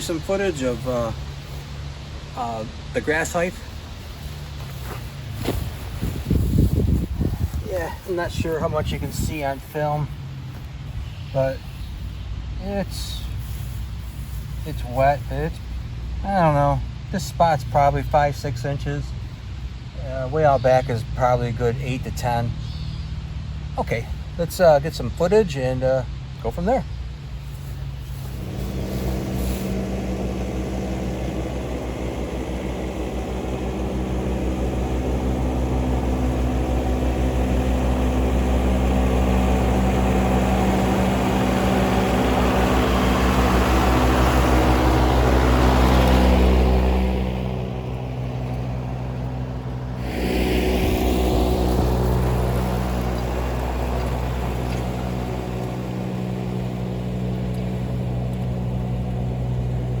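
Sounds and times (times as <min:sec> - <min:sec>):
mower deck cutting wet grass: 0:00.0 - 0:15.5, 0:27.4 - 1:00.0
tractor diesel engine under load: 0:00.0 - 0:22.9, 0:23.6 - 1:00.0.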